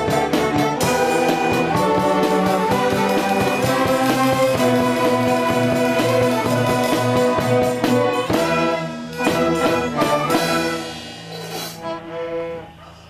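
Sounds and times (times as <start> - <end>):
string orchestra playing chords: 0.0 - 13.0.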